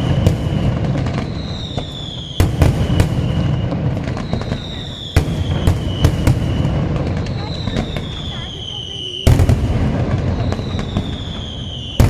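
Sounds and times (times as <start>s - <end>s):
falling firework whistle: 0.0s - 12.0s
firework cracks and pops: 0.0s - 12.0s
loud firework bang: 0.0s - 12.0s.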